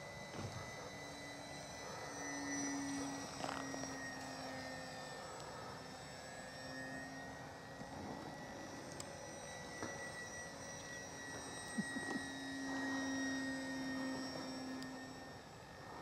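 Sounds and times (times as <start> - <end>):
model airplane motor drone: 0.0 - 16.0.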